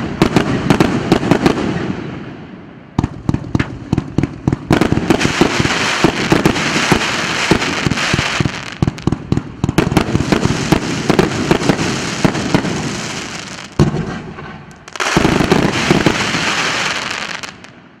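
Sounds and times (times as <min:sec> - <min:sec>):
fireworks shots and bursts: 0:00.0 - 0:18.0
firework crackling: 0:03.0 - 0:17.8.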